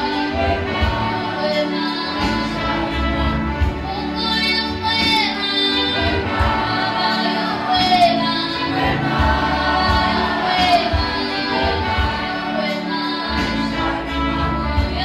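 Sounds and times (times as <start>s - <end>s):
choir singing gospel: 0.0s - 15.0s
woman singing into microphone: 0.0s - 15.0s.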